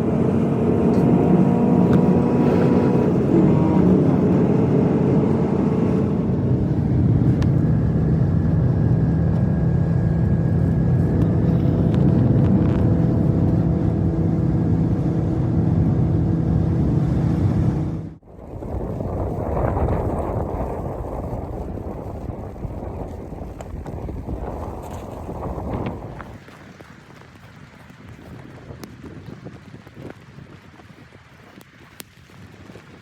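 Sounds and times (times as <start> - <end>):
vehicle engine and road noise: 0.0 - 28.1.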